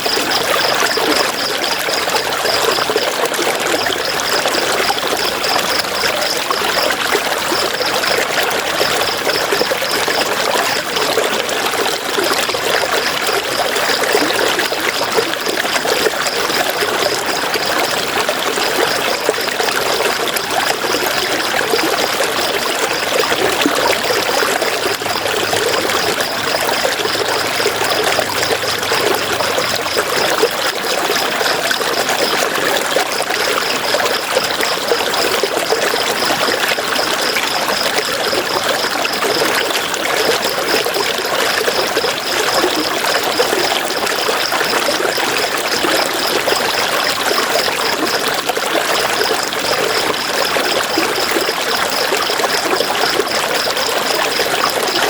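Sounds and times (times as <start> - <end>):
river water flowing and splashing: 0.0 - 55.0.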